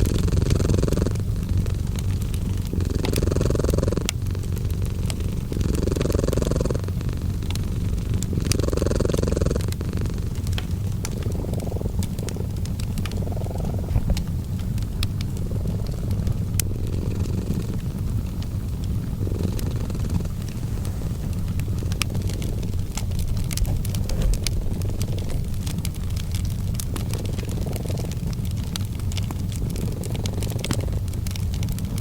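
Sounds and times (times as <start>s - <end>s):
cat purring: 0.0s - 32.0s
fireplace crackling: 0.0s - 32.0s.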